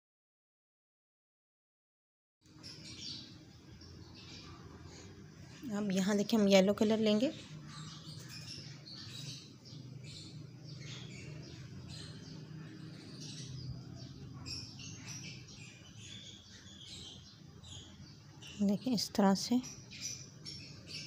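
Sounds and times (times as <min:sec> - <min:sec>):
small birds chirping: 0:02.4 - 0:21.0.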